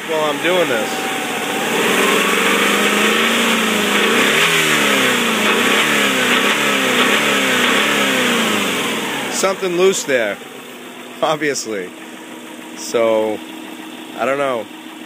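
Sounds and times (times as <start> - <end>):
car engine revving: 0.0 - 14.5
engine knocking: 0.0 - 15.0.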